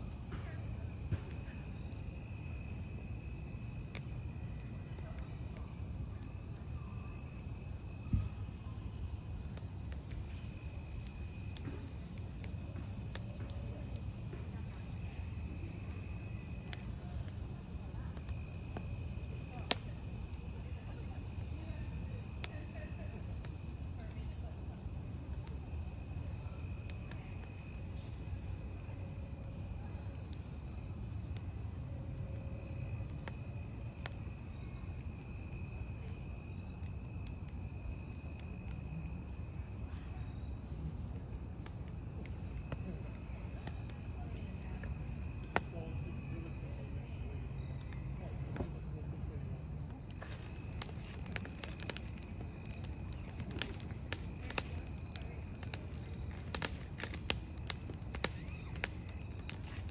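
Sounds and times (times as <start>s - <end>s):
crackling campfire: 0.0s - 59.9s
crickets chirping: 0.0s - 59.9s
burning logs popping: 0.1s - 59.9s.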